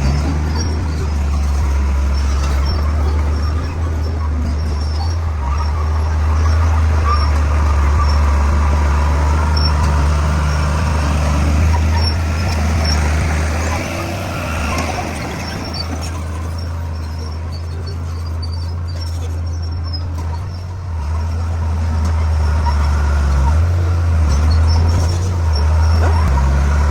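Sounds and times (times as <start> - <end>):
bulldozer diesel engine drone: 0.0 - 26.9
faint high squeaks: 0.0 - 26.9.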